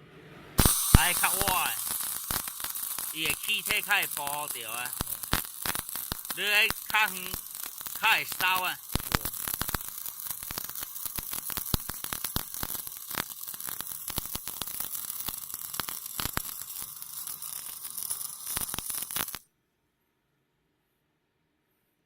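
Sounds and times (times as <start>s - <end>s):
welding arc crackling and popping: 0.6s - 19.4s.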